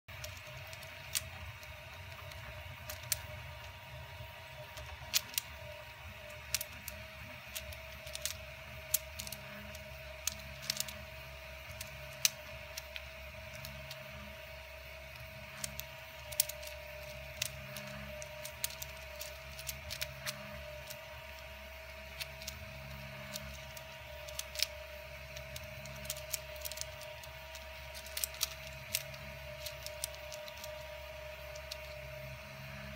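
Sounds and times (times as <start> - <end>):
steady background hum: 0.0 - 32.9
plastic fidget cube clicking: 0.1 - 32.9.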